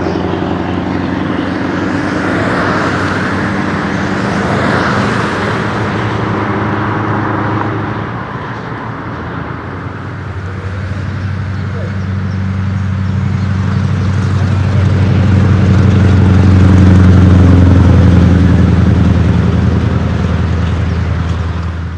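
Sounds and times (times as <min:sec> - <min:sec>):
truck engine drone: 0:00.0 - 0:21.9
tyre and road noise: 0:00.0 - 0:21.9.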